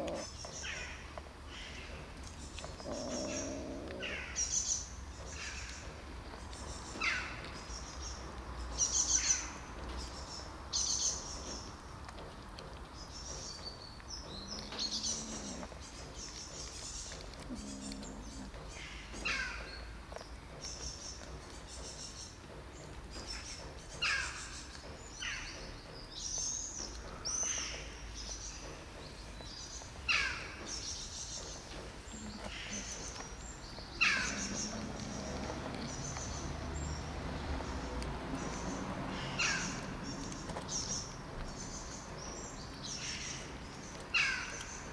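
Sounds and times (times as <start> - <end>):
birds chirping and calling: 0.0 - 44.9
low background hum: 0.0 - 44.9.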